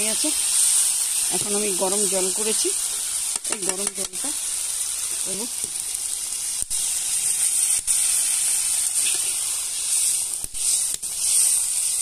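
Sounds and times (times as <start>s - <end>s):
curry hissing and sizzling: 0.0s - 12.0s.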